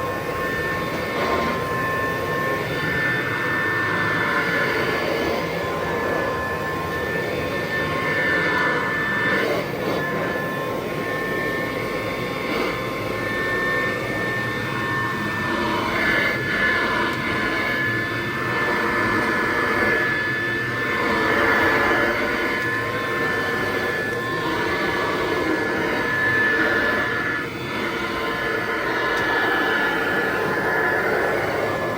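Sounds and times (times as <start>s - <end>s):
vacuum cleaner running on carpet: 0.0s - 31.9s.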